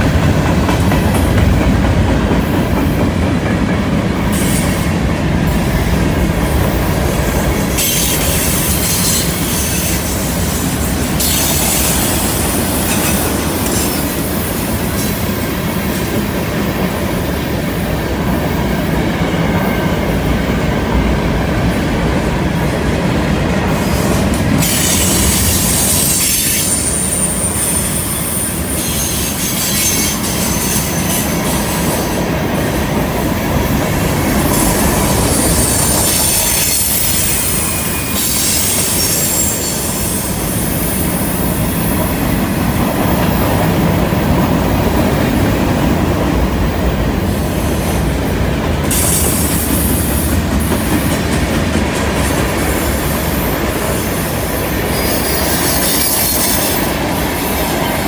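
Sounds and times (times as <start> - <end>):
steel wheels rumbling on rail: 0.0 - 58.0.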